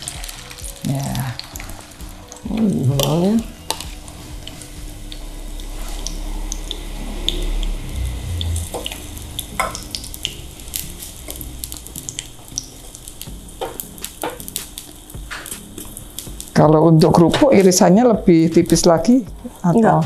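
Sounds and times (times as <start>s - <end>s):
egg frying in oil: 0.0s - 19.9s.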